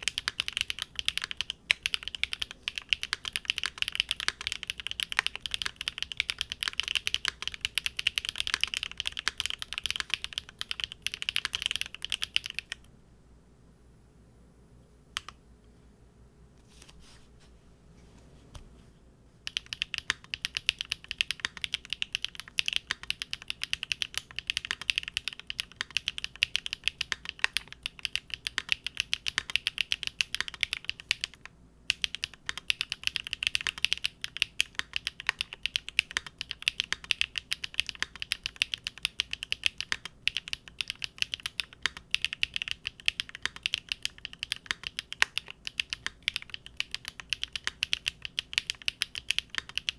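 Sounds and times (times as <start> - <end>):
mechanical keyboard typing: 0.0 - 12.9, 19.4 - 49.9.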